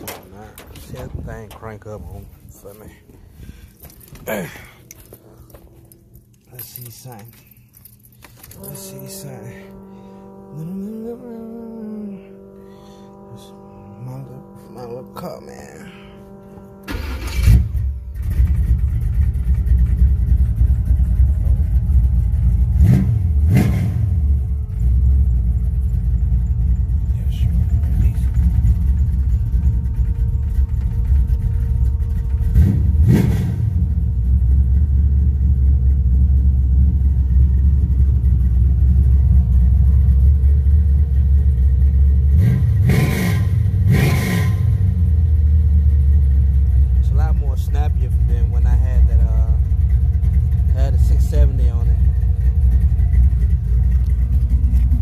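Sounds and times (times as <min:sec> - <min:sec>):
car engine cranking: 0:00.0 - 0:10.5, 0:16.3 - 0:55.0
engine idling deep rumble: 0:00.0 - 0:55.0
engine revving throttle blips: 0:00.0 - 0:55.0.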